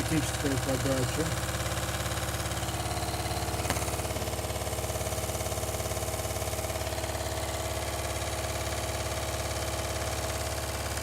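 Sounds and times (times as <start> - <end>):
lathe motor humming: 0.0 - 11.0.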